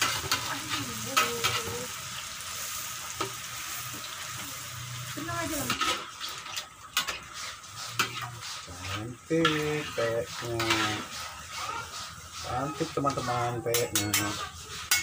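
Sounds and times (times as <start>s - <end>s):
crackers frying in oil: 0.0s - 15.0s
metal spatula scraping wok: 0.0s - 15.0s.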